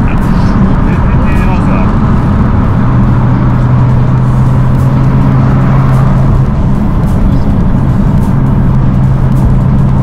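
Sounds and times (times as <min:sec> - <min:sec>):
car engine low drone: 0:00.0 - 0:10.0.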